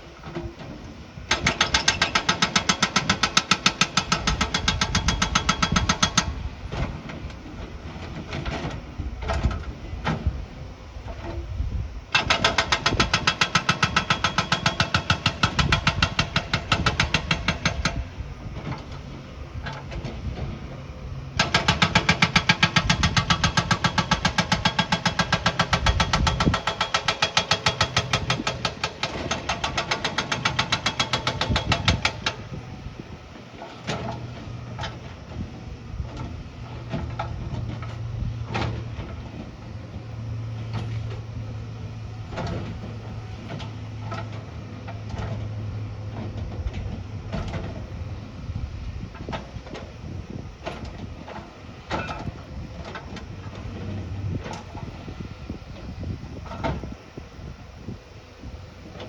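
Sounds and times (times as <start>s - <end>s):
construction machine engine: 0.0s - 59.0s.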